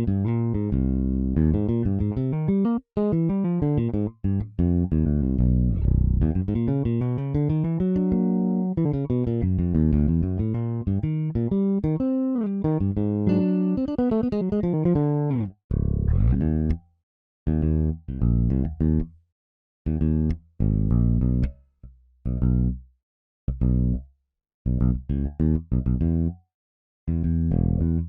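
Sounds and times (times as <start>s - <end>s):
funk electric bass line: 0.0s - 16.8s, 17.5s - 19.1s, 19.9s - 21.6s, 22.2s - 22.8s, 23.5s - 24.0s, 24.6s - 26.4s, 27.1s - 28.0s.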